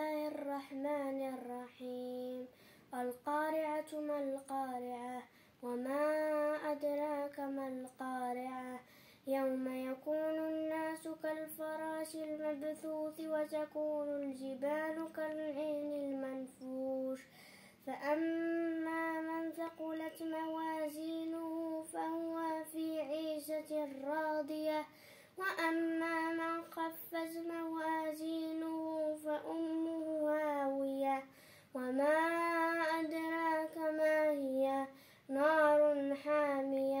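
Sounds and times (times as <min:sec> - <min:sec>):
boy chanting recitation: 0:00.0 - 0:37.0.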